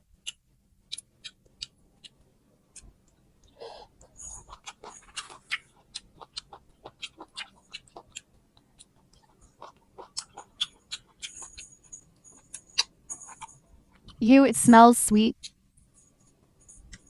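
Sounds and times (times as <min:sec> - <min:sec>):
person chewing fruit: 0:00.2 - 0:14.2.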